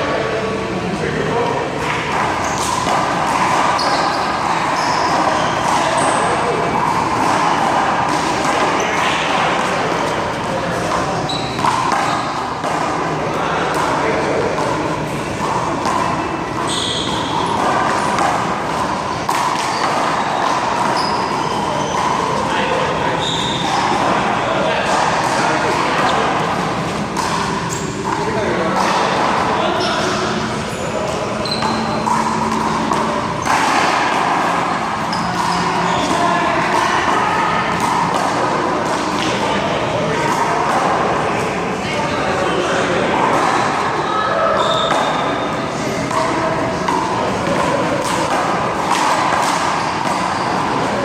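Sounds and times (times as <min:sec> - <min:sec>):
steady background noise: 0:00.0 - 0:51.0.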